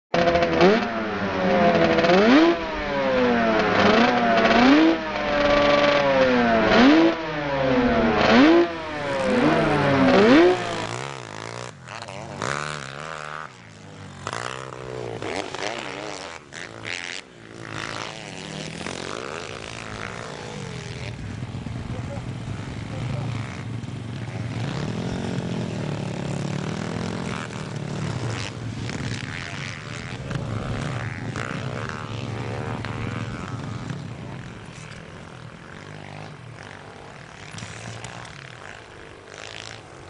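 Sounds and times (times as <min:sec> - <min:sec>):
pit bike engines revving: 0:00.1 - 0:40.0.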